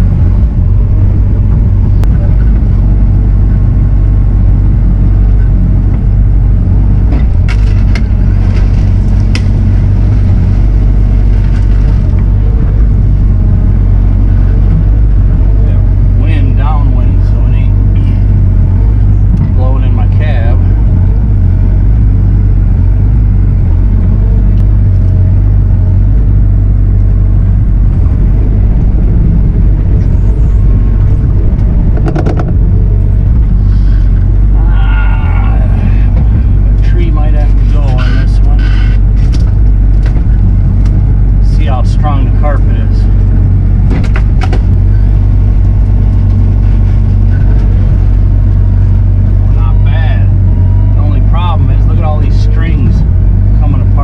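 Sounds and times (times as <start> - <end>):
diesel engine deep rumble: 0.0 - 54.0.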